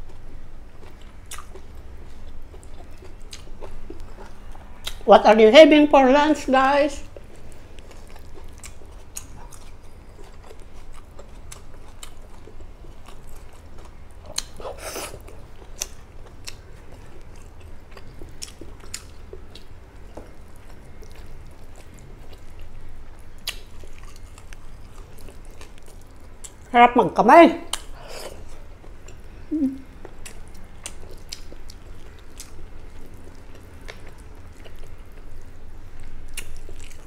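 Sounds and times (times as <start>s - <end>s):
person chewing food: 0.0s - 5.1s, 7.0s - 26.7s, 27.7s - 37.0s.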